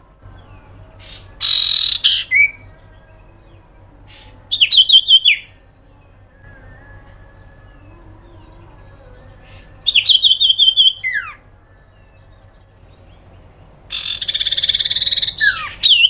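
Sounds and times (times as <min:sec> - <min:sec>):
bird calling: 0:00.3 - 0:16.0.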